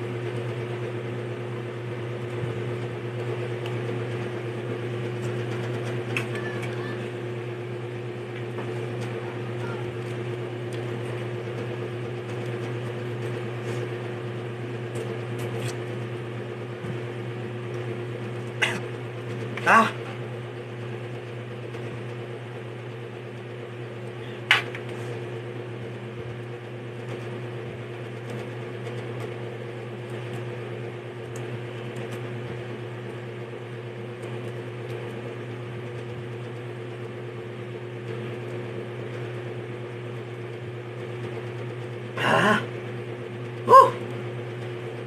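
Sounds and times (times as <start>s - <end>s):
fan humming: 0.0s - 45.0s.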